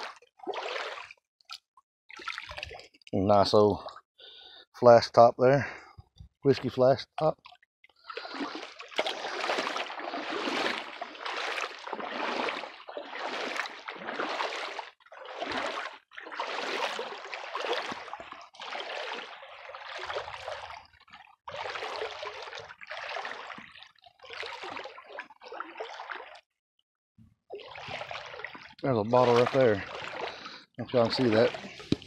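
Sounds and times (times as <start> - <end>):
water splashing from wading: 0.0 - 3.1, 7.2 - 26.5, 27.5 - 32.0.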